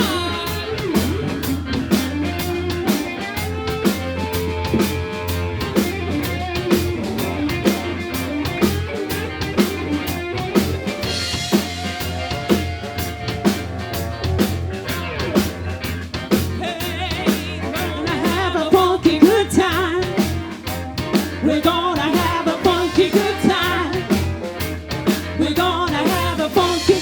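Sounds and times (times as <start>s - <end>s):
bass line: 0.0s - 27.0s
drum kit beat: 0.0s - 27.0s
electric guitar: 0.0s - 27.0s
funk band playing: 0.0s - 27.0s.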